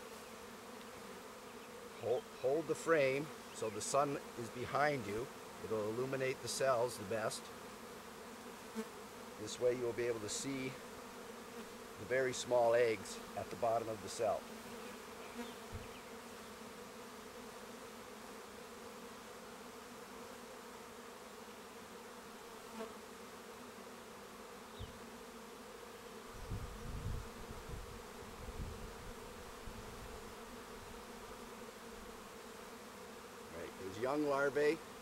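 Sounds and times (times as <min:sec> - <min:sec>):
bees humming: 0:00.0 - 0:35.0.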